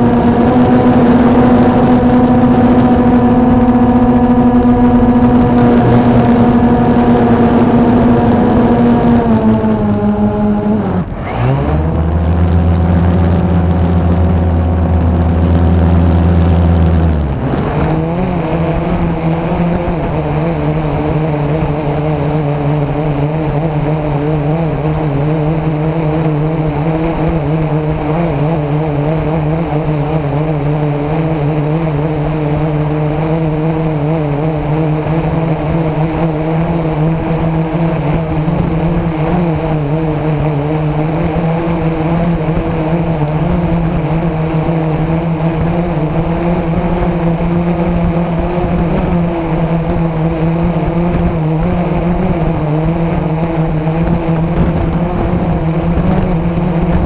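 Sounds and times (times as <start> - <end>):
drone motors humming: 0.0 - 57.0.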